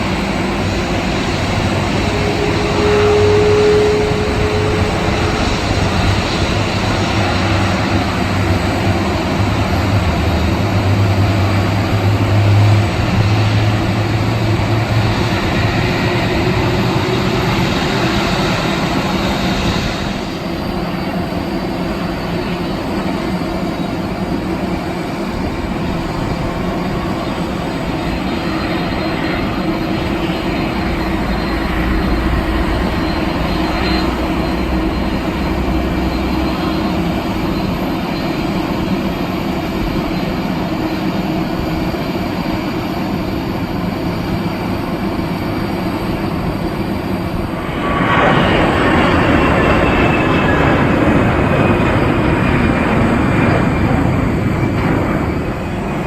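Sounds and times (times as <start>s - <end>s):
jet airliner engines running: 0.0s - 56.0s.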